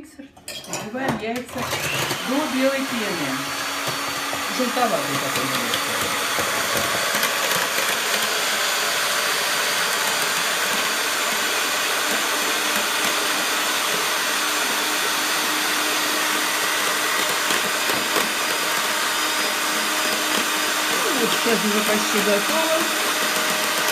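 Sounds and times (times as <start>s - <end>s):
electric hand mixer whipping eggs: 1.1s - 23.9s.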